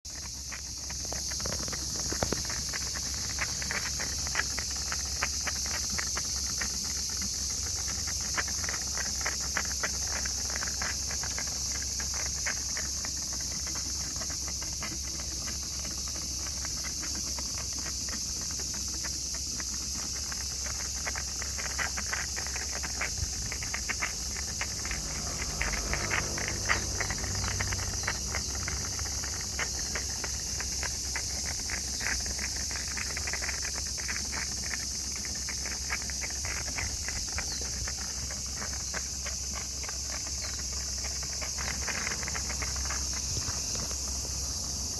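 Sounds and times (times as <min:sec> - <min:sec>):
engine ticking and clicking: 0:00.1 - 0:44.9.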